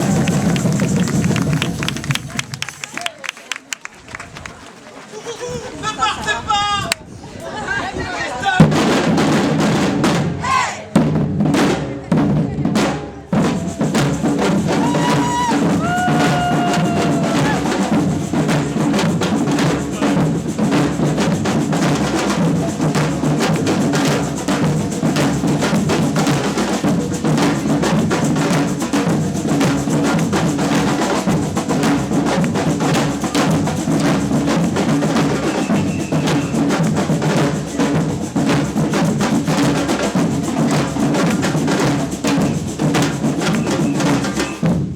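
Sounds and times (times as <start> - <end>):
samba drum band playing: 0.0 - 2.8, 8.5 - 44.9.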